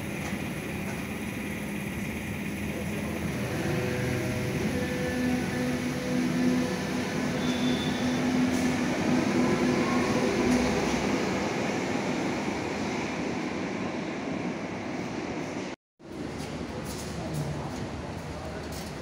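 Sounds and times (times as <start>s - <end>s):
underground train running: 0.0s - 19.0s.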